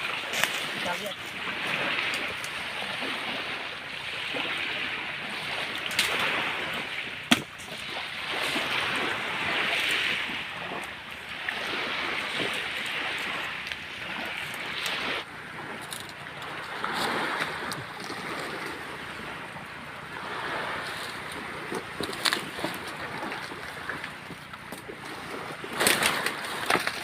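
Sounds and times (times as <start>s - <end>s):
wind through pine trees: 0.0s - 27.0s.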